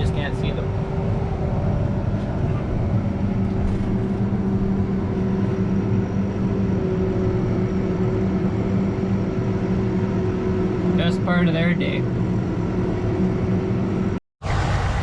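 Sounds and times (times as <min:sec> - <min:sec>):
vehicle engine running steadily: 0:00.0 - 0:15.0.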